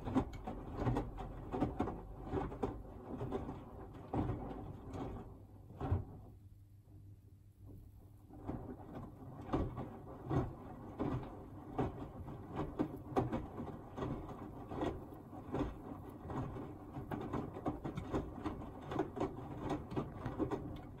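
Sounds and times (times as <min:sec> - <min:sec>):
washing machine water sloshing: 0:00.0 - 0:06.4, 0:07.7 - 0:21.0.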